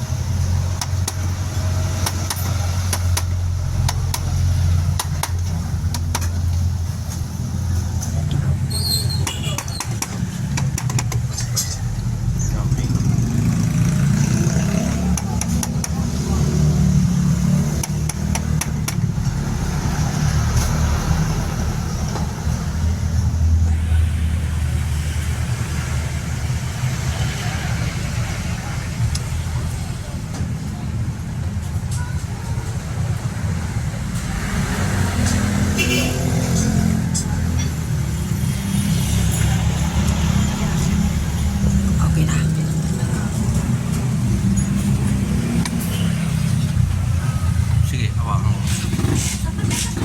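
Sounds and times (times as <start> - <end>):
low rumble of traffic: 0.0 - 50.0.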